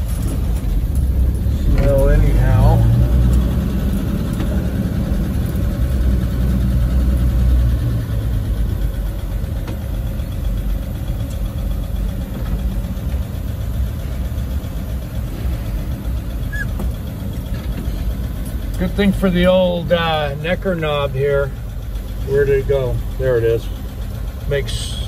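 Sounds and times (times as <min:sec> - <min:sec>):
pickup engine running at low speed: 0:00.0 - 0:25.0.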